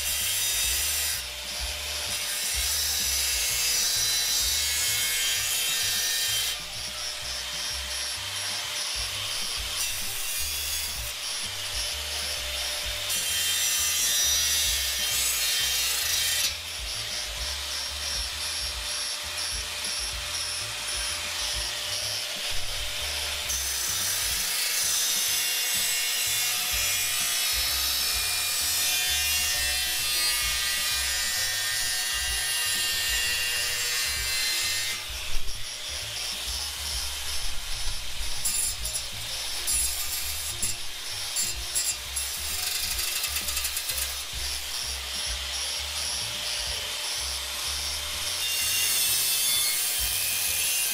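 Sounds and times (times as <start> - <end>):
angle grinder cutting sheet metal: 0.0 - 50.9
background music with steady beat: 0.0 - 50.9.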